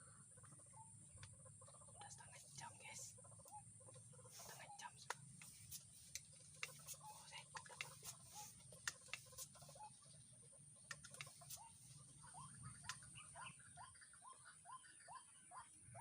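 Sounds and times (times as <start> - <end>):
small animal chirping: 0.1 - 16.0.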